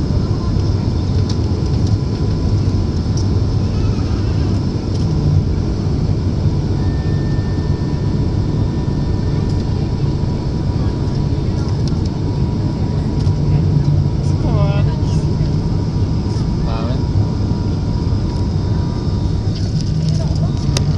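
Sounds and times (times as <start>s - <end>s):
aeroplane cabin drone: 0.0s - 20.9s
thin steady whine: 0.0s - 20.9s
higher whine: 1.2s - 20.9s.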